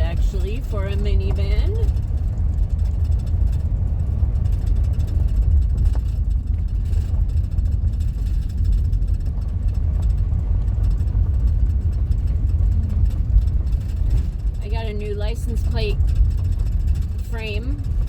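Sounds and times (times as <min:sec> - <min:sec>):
van engine and tyres rumbling: 0:00.0 - 0:18.0.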